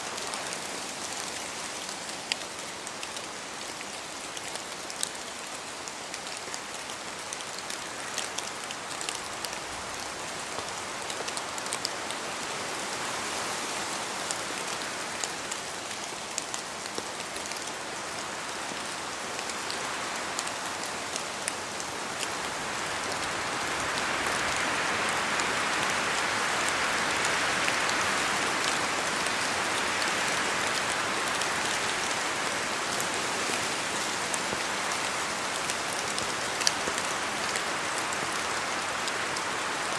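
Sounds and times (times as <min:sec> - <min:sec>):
rain falling through trees: 0:00.0 - 0:39.9
wind gusting through trees: 0:00.0 - 0:39.9.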